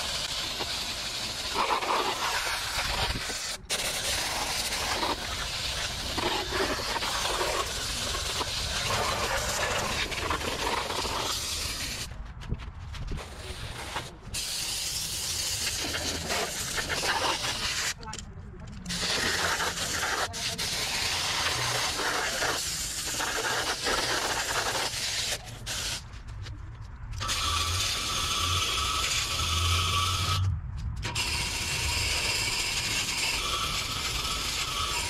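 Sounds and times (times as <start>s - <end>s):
hose spraying water on metal: 0.0s - 12.1s, 13.9s - 18.0s, 18.9s - 26.0s, 27.2s - 30.4s, 31.1s - 35.0s.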